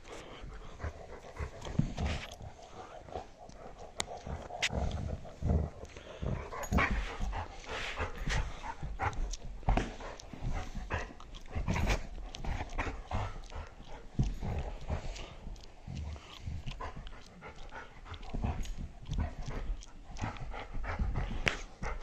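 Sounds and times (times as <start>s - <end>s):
dog growls: 0.0s - 22.0s.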